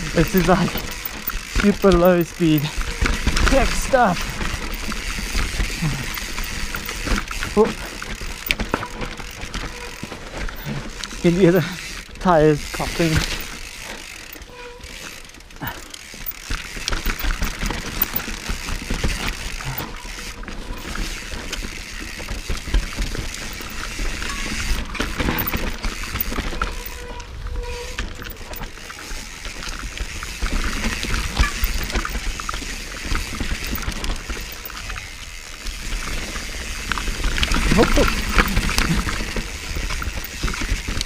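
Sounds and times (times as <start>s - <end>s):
bike rattling and clicking: 0.0s - 41.0s
tyres crackling on dirt: 0.0s - 41.0s.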